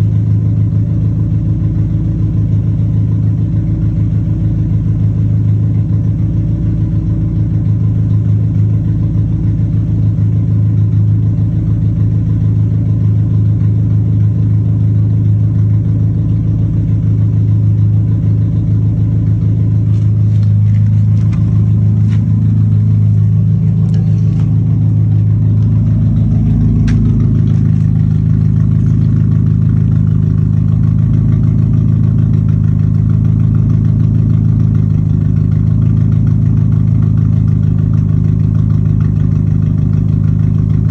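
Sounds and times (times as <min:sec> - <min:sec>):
car engine idling loudly: 0:00.0 - 0:40.9.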